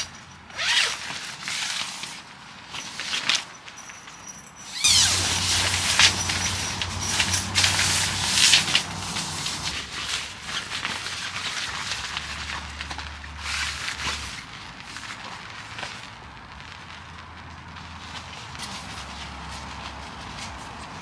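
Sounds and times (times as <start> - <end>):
nylon fabric rustling: 0.0 - 21.0.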